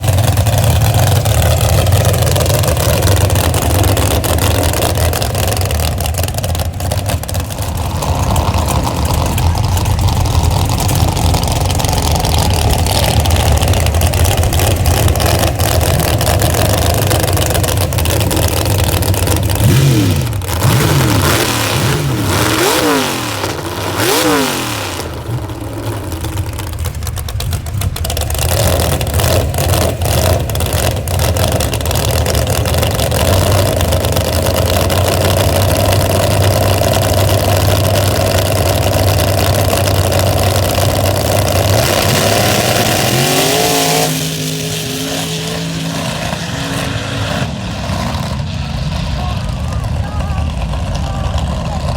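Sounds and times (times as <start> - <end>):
race vehicle engine revving: 0.0 - 51.9.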